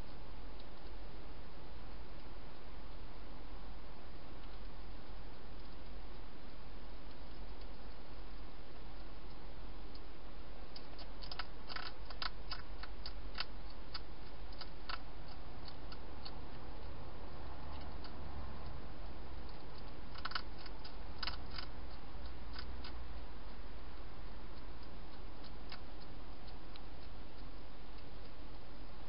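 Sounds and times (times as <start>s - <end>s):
steady hiss and hum: 0.0s - 29.0s
hedgehog chewing dry food: 4.4s - 29.0s.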